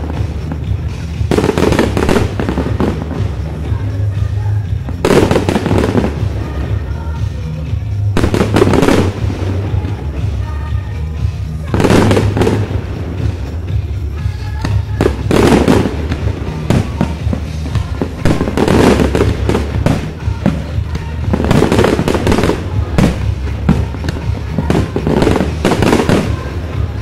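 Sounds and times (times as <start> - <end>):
firework crackling: 0.0 - 27.0.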